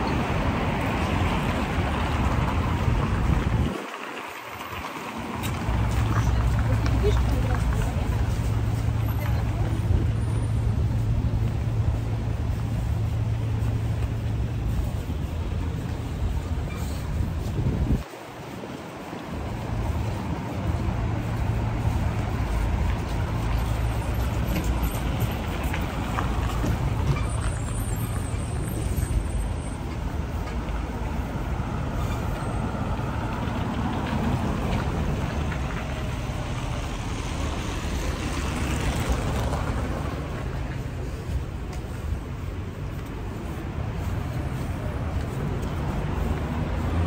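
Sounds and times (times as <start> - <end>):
cars driving past: 0.0 - 47.0.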